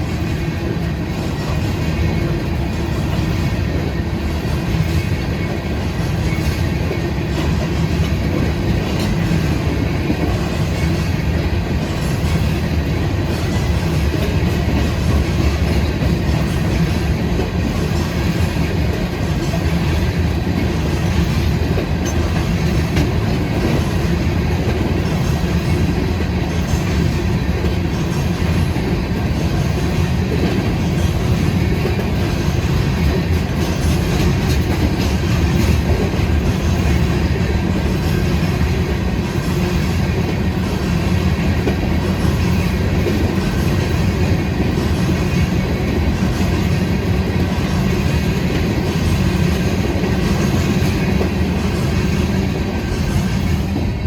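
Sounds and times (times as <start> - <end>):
train wheels on rails: 0.0 - 54.0.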